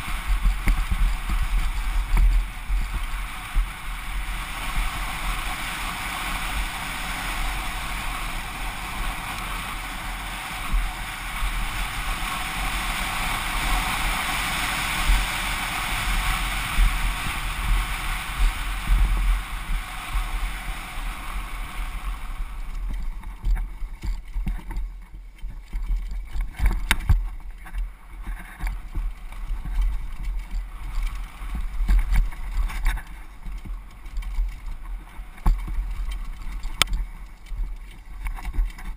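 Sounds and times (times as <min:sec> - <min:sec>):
bike knocking and rattling: 0:00.0 - 0:38.9
low rumble from bumpy trail: 0:00.0 - 0:38.9
wind rushing over microphone: 0:00.0 - 0:38.9.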